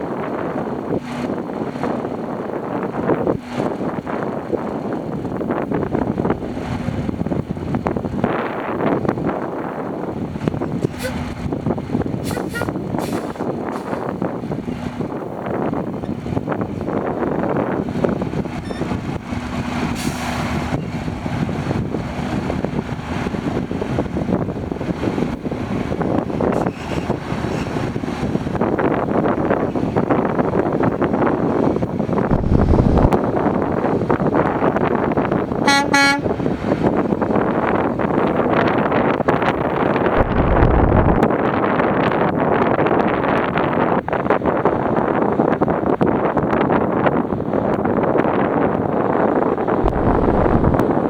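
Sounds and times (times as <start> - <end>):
diesel truck engine running: 0.0 - 41.7, 48.2 - 51.0
wind buffeting microphone: 0.0 - 51.0.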